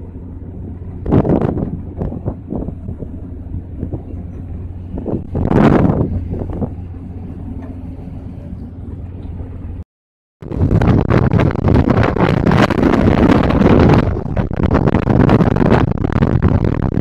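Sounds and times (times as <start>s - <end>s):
rush of wind and sea: 0.0s - 9.8s, 10.4s - 17.0s
ship engine droning: 0.0s - 9.8s, 10.4s - 17.0s
wind buffeting microphone: 0.0s - 9.8s, 10.4s - 17.0s.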